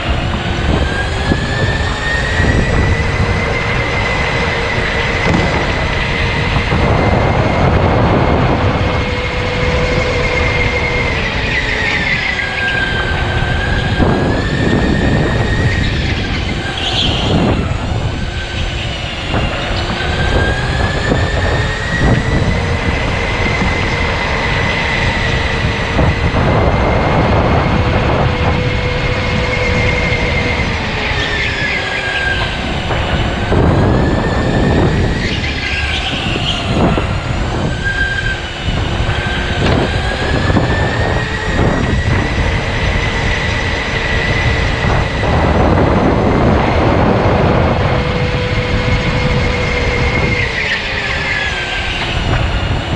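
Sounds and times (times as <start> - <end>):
electric motor whining: 0.0 - 52.9
kart rumble: 0.0 - 52.9.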